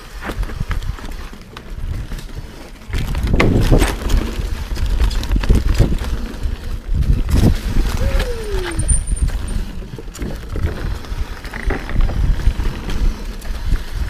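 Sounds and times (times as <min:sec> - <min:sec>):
bike clicking and rattling over bumps: 0:00.0 - 0:14.0
bike tyres rumbling on dirt: 0:00.0 - 0:14.0.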